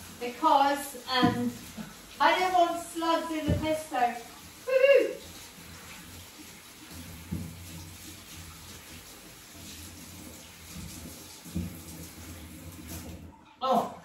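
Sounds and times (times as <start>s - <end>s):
tap water running: 0.0s - 14.0s.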